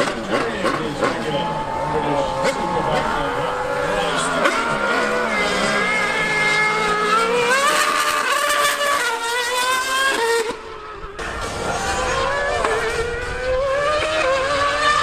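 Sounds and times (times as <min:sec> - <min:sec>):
racing engine at full throttle: 0:00.0 - 0:15.0.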